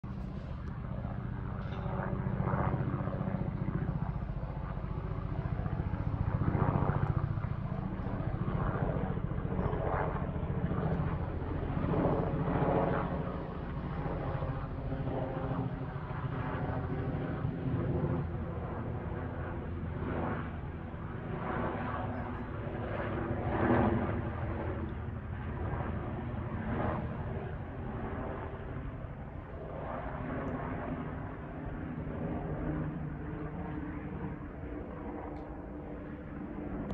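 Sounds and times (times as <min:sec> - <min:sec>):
helicopter rotor chop: 0:00.0 - 0:36.9
helicopter turbine noise: 0:00.0 - 0:36.9.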